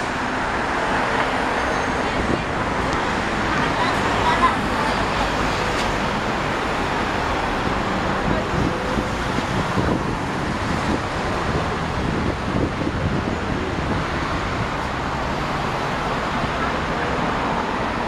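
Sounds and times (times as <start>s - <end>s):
city road traffic hum: 0.0s - 18.0s.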